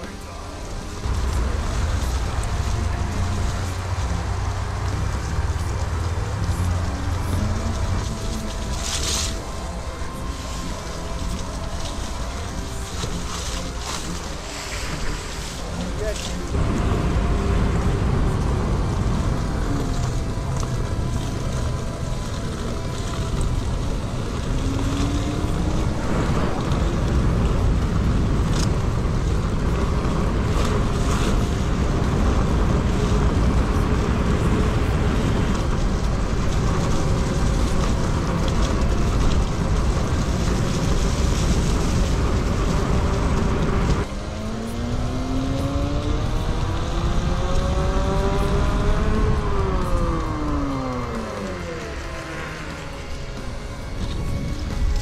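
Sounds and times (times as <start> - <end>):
electric motor whine: 0.0 - 55.0
wind rushing over microphone: 0.0 - 55.0.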